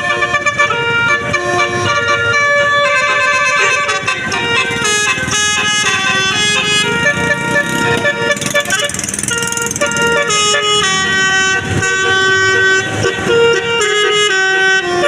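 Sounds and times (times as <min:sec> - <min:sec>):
multi-tone bus horn playing a tune: 0:00.0 - 0:15.0.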